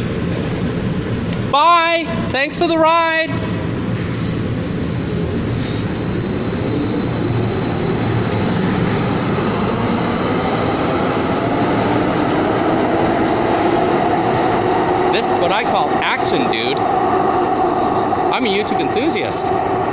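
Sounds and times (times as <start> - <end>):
light rail train rumbling: 0.0 - 19.9.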